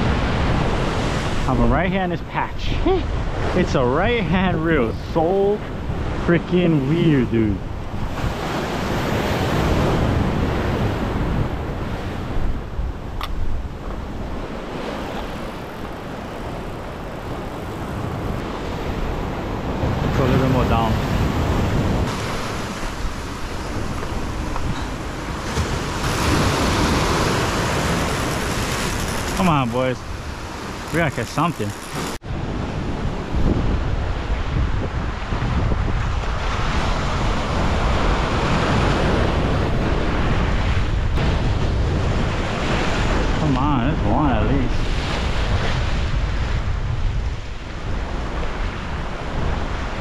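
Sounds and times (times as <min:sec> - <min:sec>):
surf washing over rocks: 0:00.0 - 0:46.8
wind buffeting microphone: 0:00.0 - 0:50.0.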